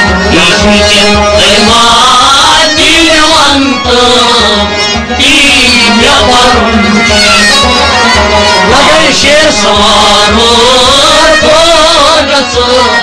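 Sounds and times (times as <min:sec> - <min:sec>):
instrumental accompaniment: 0:00.0 - 0:13.0
man singing: 0:00.0 - 0:13.0
rhythmic drum beat: 0:00.0 - 0:13.0.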